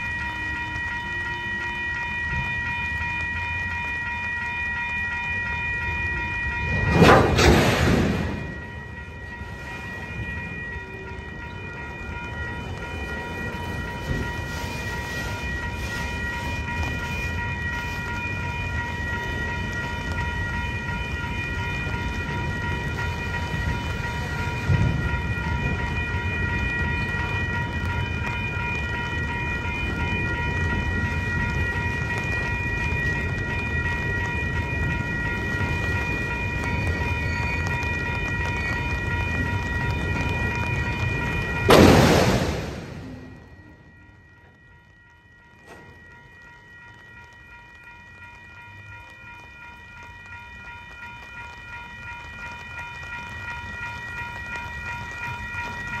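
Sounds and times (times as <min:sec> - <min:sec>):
crossing warning bell ringing: 0:00.0 - 0:56.0
rumble of wheels on rail: 0:00.0 - 0:56.0.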